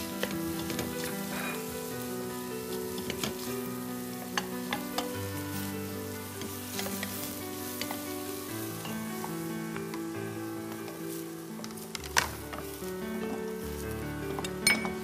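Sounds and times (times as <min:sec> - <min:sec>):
food sizzling in pots: 0:00.0 - 0:15.0
soft background music: 0:00.0 - 0:15.0
wooden spoons stirring: 0:00.0 - 0:15.0.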